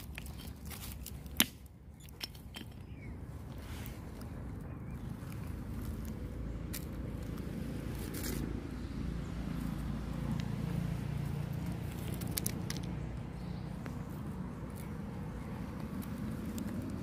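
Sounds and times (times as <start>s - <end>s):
seeds and stones clicking on gravel: 0.0s - 2.9s, 3.6s - 8.6s, 10.2s - 17.0s
low outdoor rumble: 0.0s - 17.0s.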